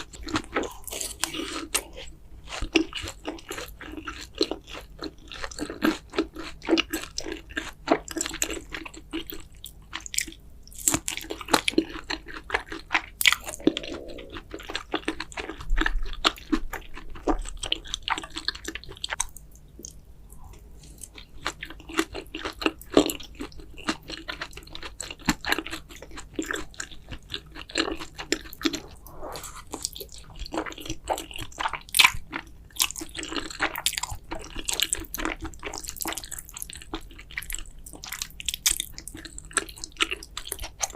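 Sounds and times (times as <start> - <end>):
close-miked chewing and smacking: 0.0 - 40.9.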